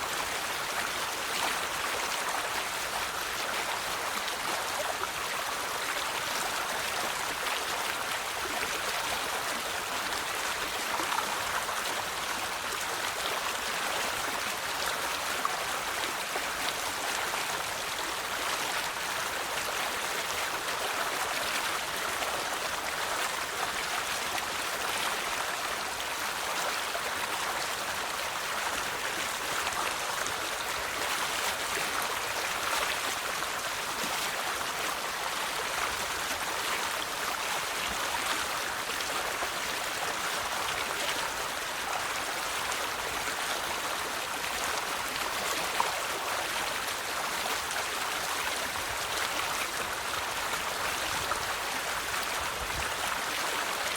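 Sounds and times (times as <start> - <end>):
river water flowing over stones: 0.0 - 53.9.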